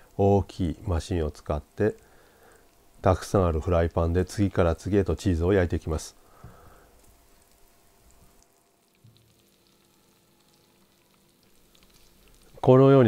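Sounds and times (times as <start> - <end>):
faint cheese sizzling: 0.0 - 13.0
tiny crackles: 0.0 - 13.0.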